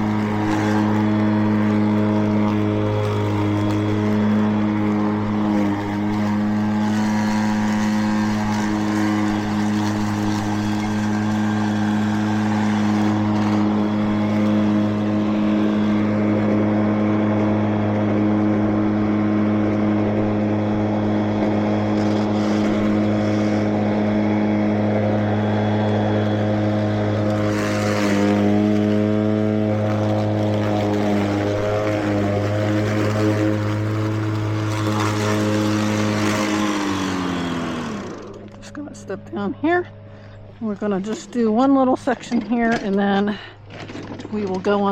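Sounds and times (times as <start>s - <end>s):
electric mower blade humming: 0.0s - 44.9s.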